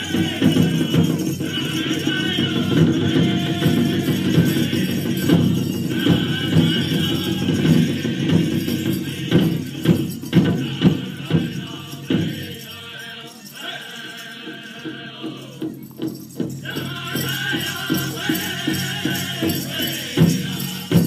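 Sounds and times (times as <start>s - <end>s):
group singing over drumbeat: 0.0s - 21.0s.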